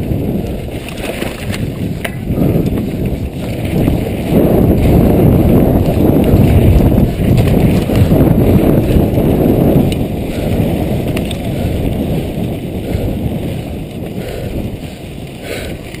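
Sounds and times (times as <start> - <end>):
bike rattling over dirt track: 0.0 - 16.0
wind buffeting microphone: 0.0 - 16.0.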